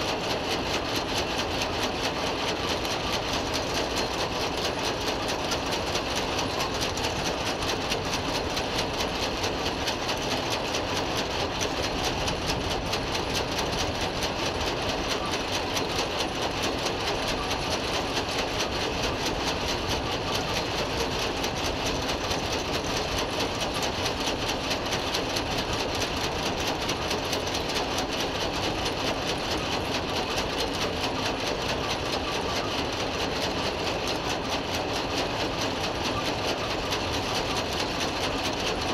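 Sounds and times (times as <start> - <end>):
machinery rattle: 0.0 - 38.9.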